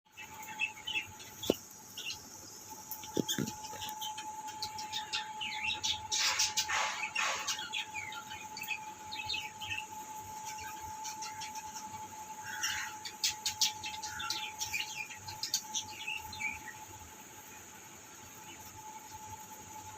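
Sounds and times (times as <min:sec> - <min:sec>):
faint steady hum: 0:00.1 - 0:19.9
small birds chirping: 0:00.1 - 0:19.9.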